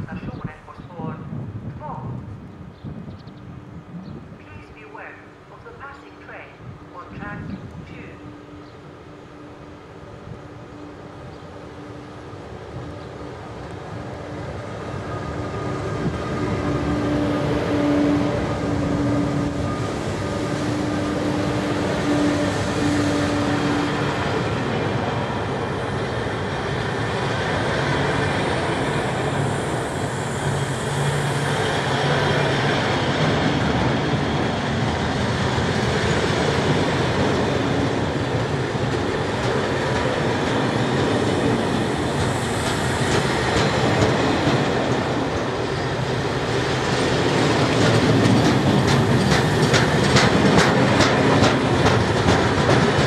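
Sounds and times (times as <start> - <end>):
electric locomotive hum: 0.0 - 53.0
train wheels rumbling on rails: 0.0 - 53.0.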